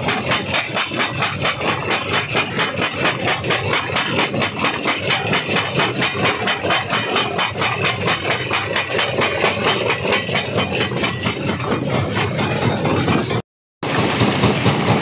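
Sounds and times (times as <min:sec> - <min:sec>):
stone crusher knocking: 0:00.0 - 0:15.0.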